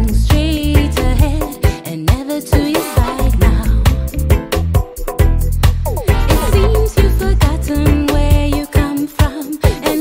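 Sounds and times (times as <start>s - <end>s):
reggae song: 0.0s - 10.0s.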